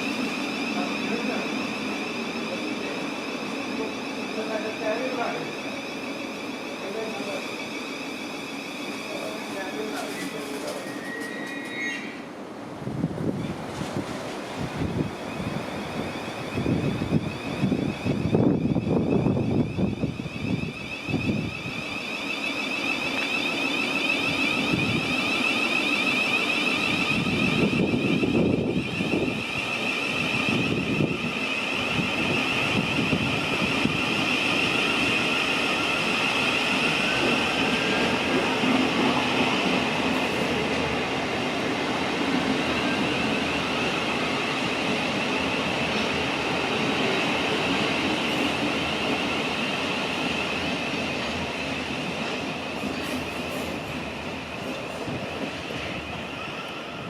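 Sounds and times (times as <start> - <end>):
train high whine: 0.0 - 57.0
train wheels rumbling on rail: 0.0 - 57.0.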